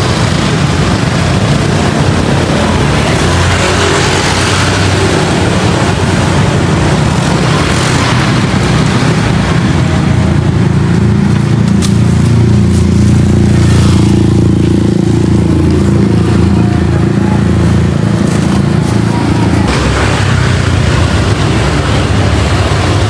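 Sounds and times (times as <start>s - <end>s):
motorbikes and cars passing: 0.0s - 23.0s.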